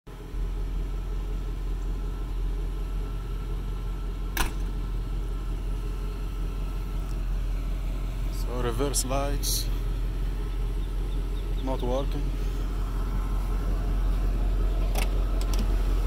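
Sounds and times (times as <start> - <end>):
pickup engine idling: 0.1 - 16.0.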